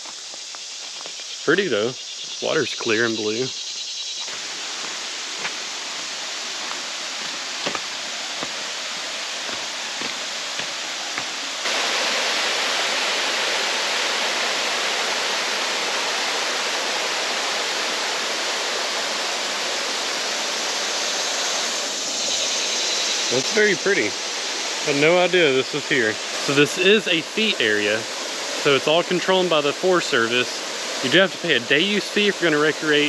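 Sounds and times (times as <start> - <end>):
water rushing over dam: 4.4 - 33.0.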